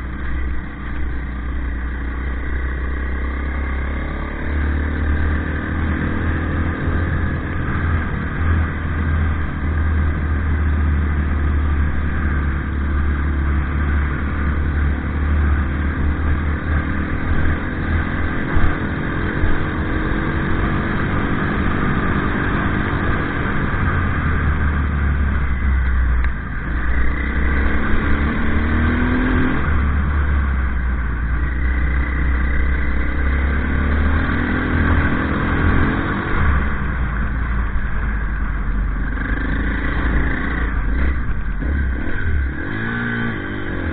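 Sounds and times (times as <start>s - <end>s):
vehicle engine accelerating: 0.0s - 43.9s.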